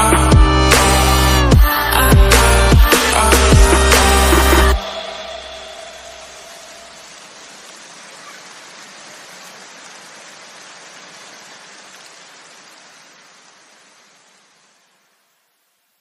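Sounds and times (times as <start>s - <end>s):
even noise hiss: 2.4s - 16.0s.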